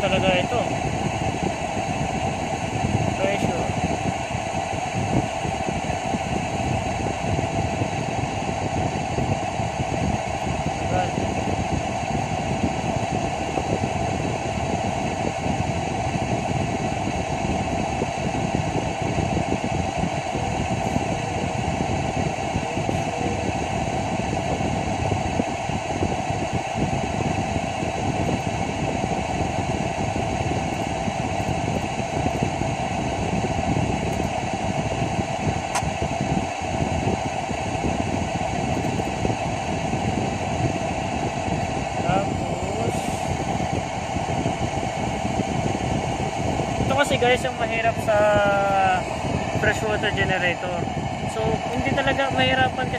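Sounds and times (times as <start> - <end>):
machinery hum: 0.0 - 52.9.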